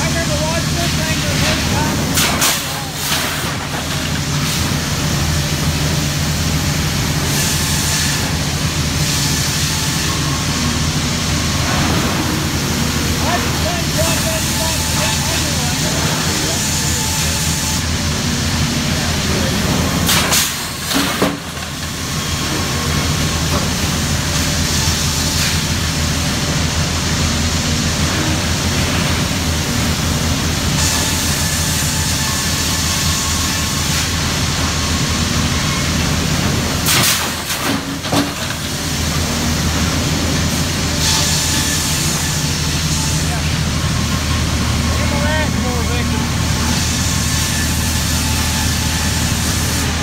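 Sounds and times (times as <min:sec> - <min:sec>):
sawmill machinery running: 0:00.0 - 0:50.0.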